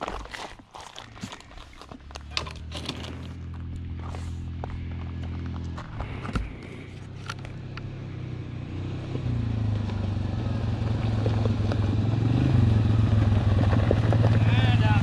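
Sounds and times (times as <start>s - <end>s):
vehicle engine revving: 2.0s - 15.0s.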